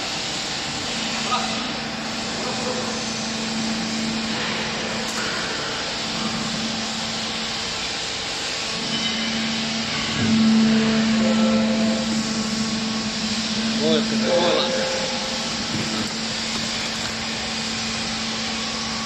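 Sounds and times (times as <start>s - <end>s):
baler machine hum with hiss: 0.0s - 19.0s.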